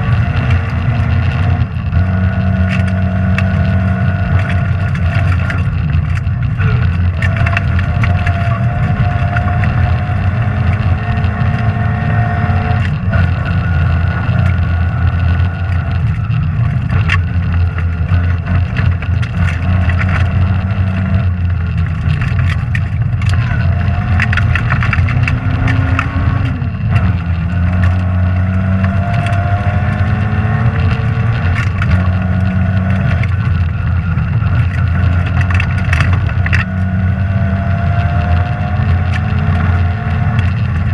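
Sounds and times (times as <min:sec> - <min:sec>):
rally car engine revving: 0:00.0 - 0:40.9
sharp clicks and knocks: 0:00.0 - 0:40.9.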